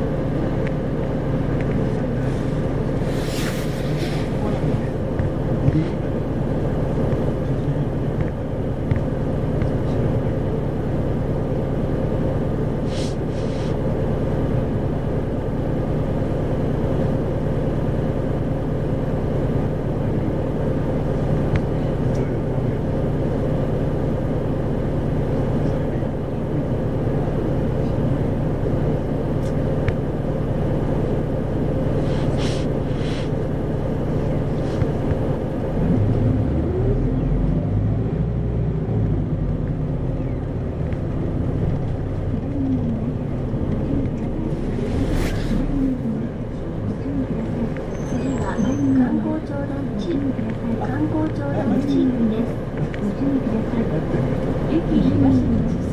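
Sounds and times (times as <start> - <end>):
bus engine and road noise drone: 0.0 - 55.9.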